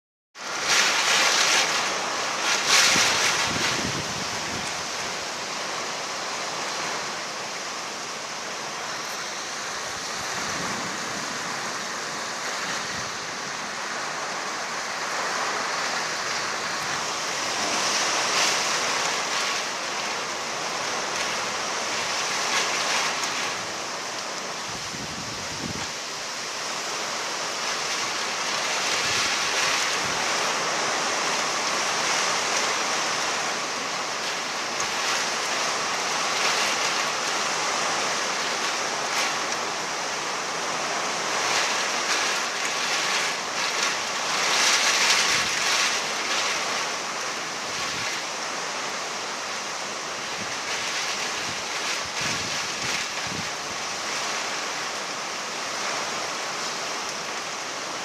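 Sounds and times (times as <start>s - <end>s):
heavy rain pouring: 0.4s - 58.0s.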